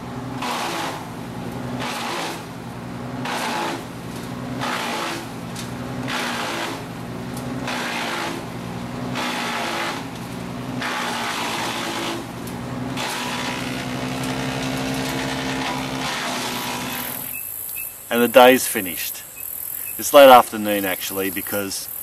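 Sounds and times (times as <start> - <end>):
wood chipper engine running: 0.0 - 19.0
wood chipping bursts: 0.0 - 21.9.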